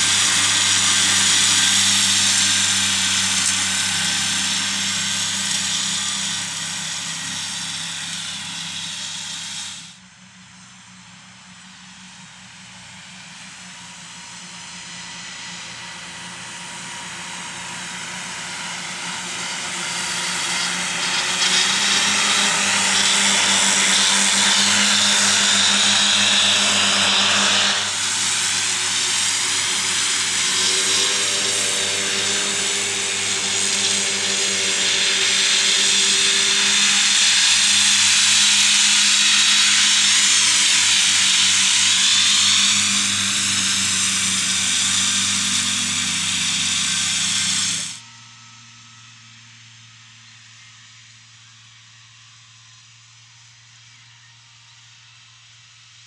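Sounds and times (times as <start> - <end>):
mower whirring hiss: 0.0 - 56.0
tractor engine drone: 0.0 - 56.0.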